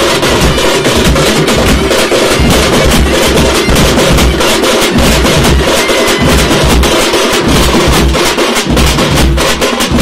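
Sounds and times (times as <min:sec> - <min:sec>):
street drum band playing: 0:00.0 - 0:10.0.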